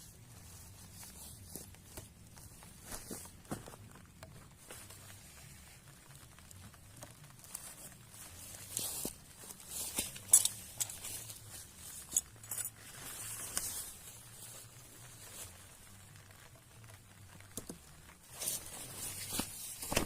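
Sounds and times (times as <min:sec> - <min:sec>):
rustling and scraping of gear: 0:00.0 - 0:20.0.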